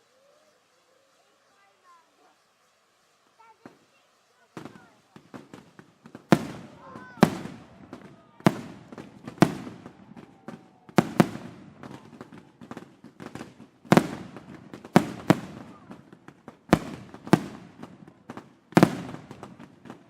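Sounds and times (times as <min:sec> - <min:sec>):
firework pops and crackles: 0:03.0 - 0:20.0
firework shell bursts echoing: 0:03.0 - 0:20.0.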